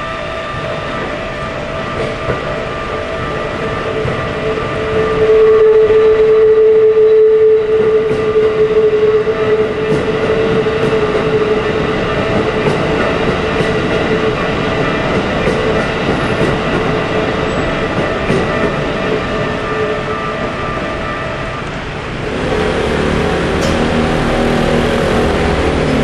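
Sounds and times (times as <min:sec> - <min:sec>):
steady warning tone: 0:00.0 - 0:26.0
train passing rumble: 0:00.0 - 0:26.0.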